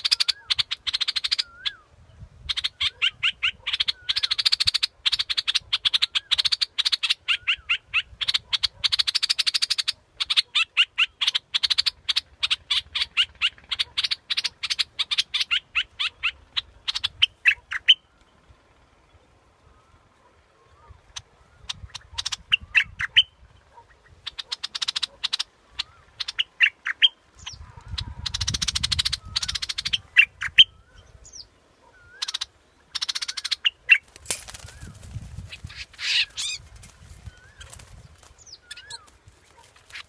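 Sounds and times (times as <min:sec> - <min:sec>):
bird chattering trills and whistles: 0:00.0 - 0:18.2, 0:19.8 - 0:40.0.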